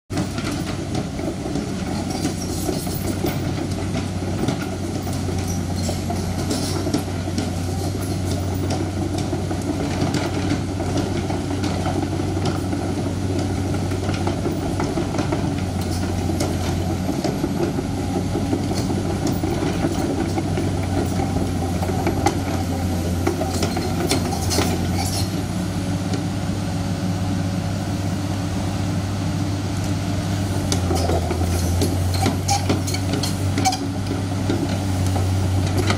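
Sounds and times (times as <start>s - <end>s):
steel tracks clanking on rocks: 0.1s - 26.3s, 30.3s - 35.9s
excavator diesel engine running: 0.1s - 35.9s.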